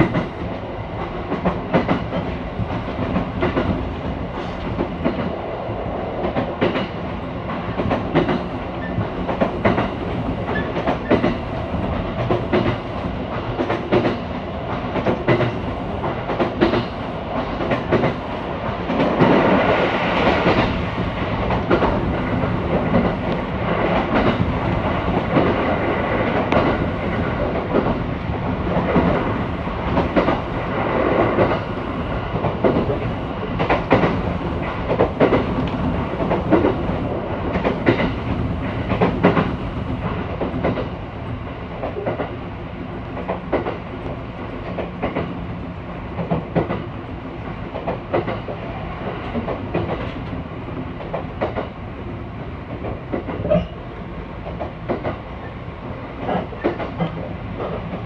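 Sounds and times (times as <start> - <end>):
clickety-clack of rail joints: 0.0 - 58.0
rumble of train wheels: 0.0 - 58.0.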